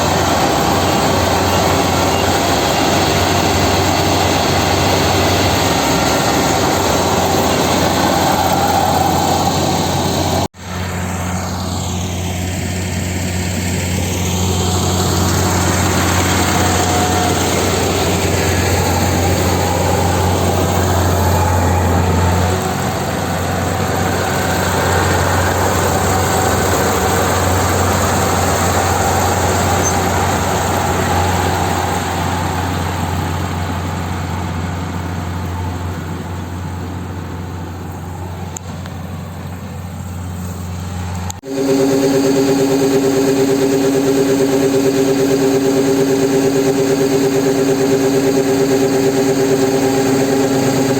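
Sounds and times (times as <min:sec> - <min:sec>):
harvesting machine engine running: 0:00.0 - 0:50.9.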